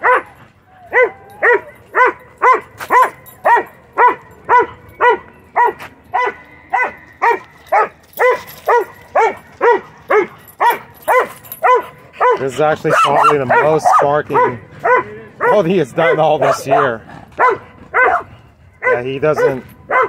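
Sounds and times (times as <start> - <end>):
dog barking: 0.0 - 20.0.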